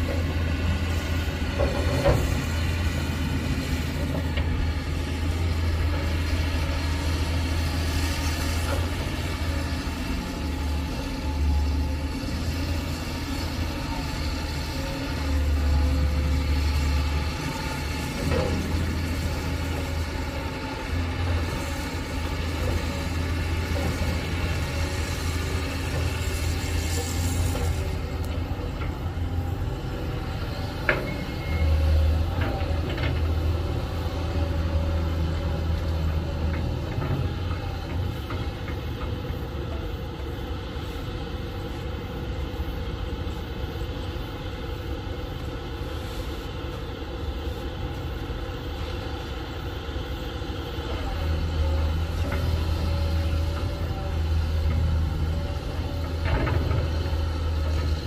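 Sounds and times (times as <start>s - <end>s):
excavator diesel engine rumbling: 0.0s - 58.0s.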